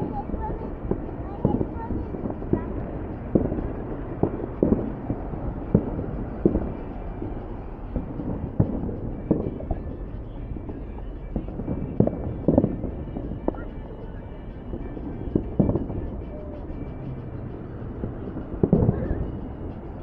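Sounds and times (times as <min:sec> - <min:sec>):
low rumble: 0:00.0 - 0:20.0
fireworks booms and pops: 0:00.1 - 0:10.0, 0:10.6 - 0:14.0, 0:14.7 - 0:16.4, 0:18.0 - 0:19.4.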